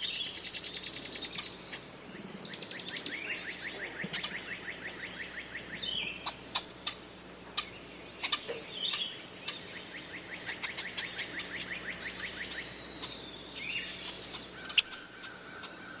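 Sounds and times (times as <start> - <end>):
birds singing and calling: 0.0 - 16.0.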